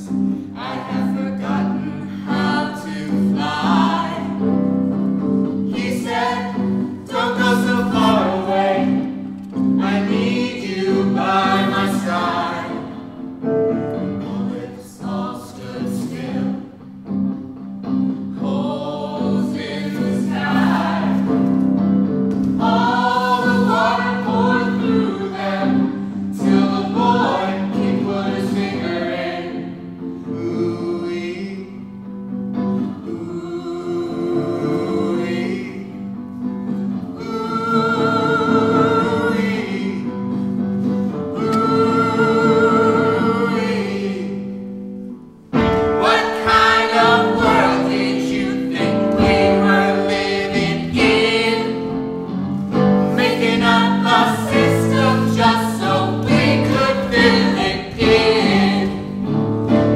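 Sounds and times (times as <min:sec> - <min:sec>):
choir singing: 0:00.0 - 0:17.2, 0:18.1 - 0:31.9, 0:32.7 - 0:59.9.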